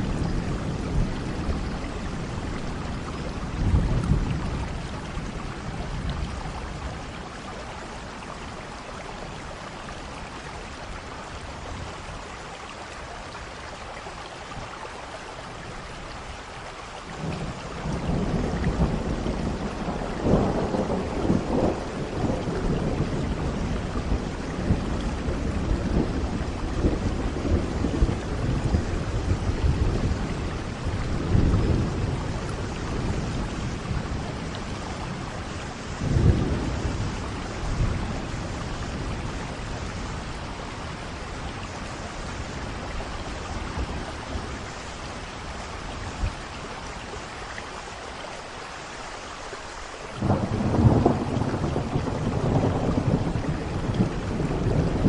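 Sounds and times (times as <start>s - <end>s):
low rumble of thunder: 0.0s - 14.8s, 15.4s - 47.6s, 50.2s - 55.0s
steady rain falling: 0.0s - 55.0s.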